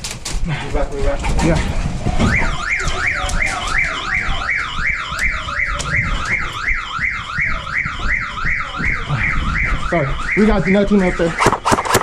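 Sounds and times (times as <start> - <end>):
electronic siren yelping: 2.2 - 12.0.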